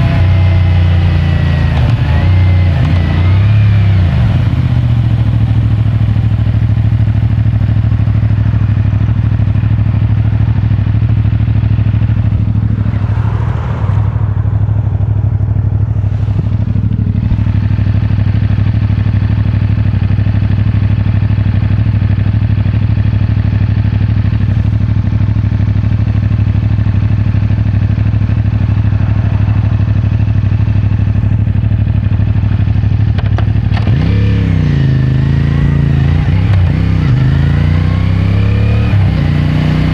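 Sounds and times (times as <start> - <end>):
motorcycle engine running: 0.0 - 13.4, 14.8 - 39.9.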